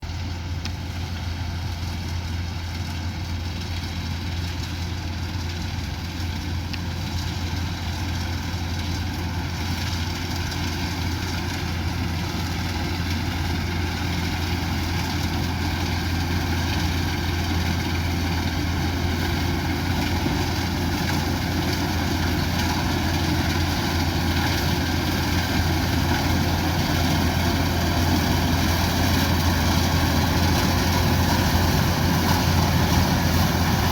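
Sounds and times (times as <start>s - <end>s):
harvester engine low hum: 0.0s - 33.9s.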